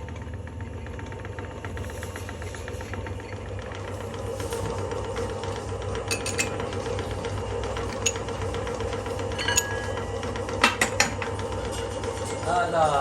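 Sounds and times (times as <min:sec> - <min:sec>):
workshop machine humming: 0:00.0 - 0:13.0.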